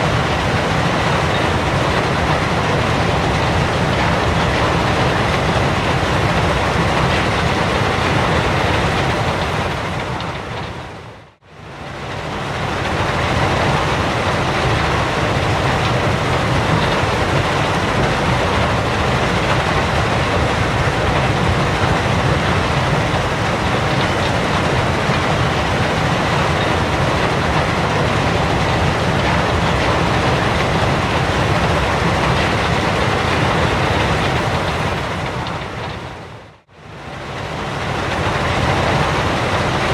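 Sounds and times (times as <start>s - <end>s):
heavy machinery noise: 0.0s - 39.9s.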